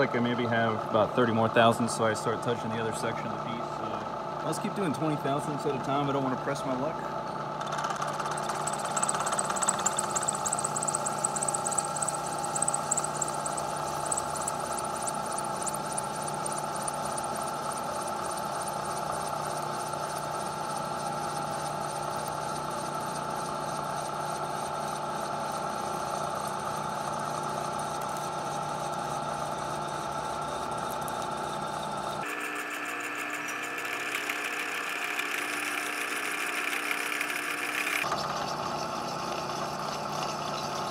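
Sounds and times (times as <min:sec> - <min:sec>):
high-pitched machine whine: 0:00.0 - 0:40.9
milling machine running: 0:00.0 - 0:40.9.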